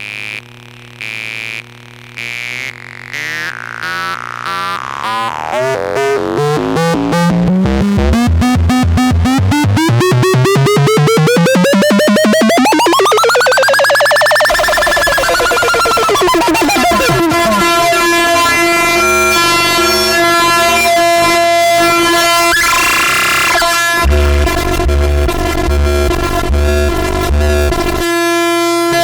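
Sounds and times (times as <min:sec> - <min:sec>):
synthesizer pulses speeding into buzz: 0:01.0 - 0:29.0
low synthesizer drone: 0:02.2 - 0:28.1
rising synthesizer tone: 0:02.4 - 0:27.8.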